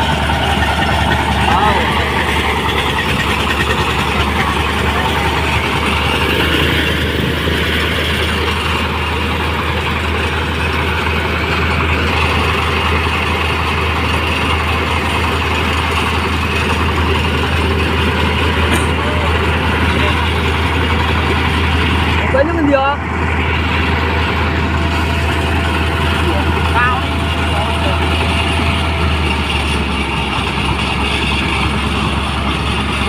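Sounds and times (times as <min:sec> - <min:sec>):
rice thresher running: 0:00.0 - 0:33.0.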